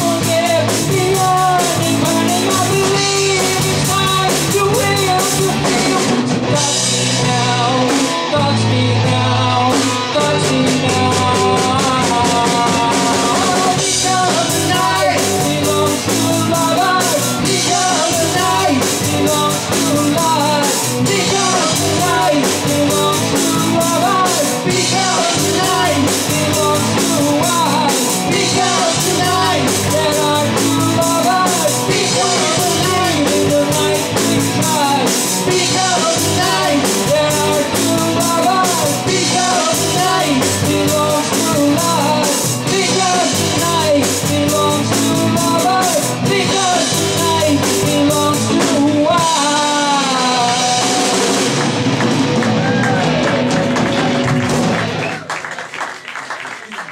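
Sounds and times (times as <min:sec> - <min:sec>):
man singing: 0:00.0 - 0:51.8
live rock band playing: 0:00.0 - 0:55.6.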